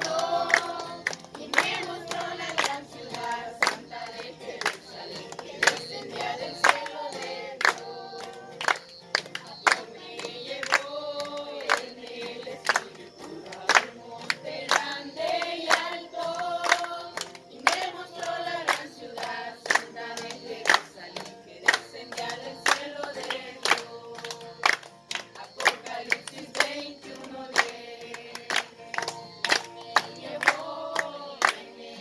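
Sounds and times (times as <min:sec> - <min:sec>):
group of voices singing: 0:00.0 - 0:32.0
hands clapping a steady beat: 0:00.0 - 0:32.0.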